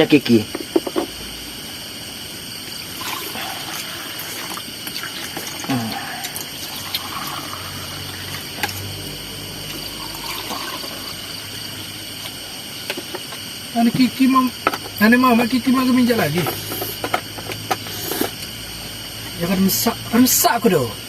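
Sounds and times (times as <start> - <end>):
night insects chirring: 0.0 - 21.0.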